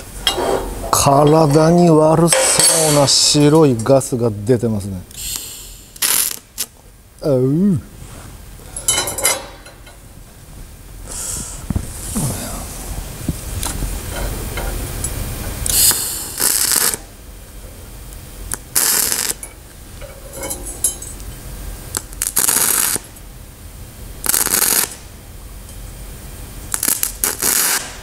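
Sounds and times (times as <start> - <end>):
welding arc crackling hiss: 5.0 - 28.0.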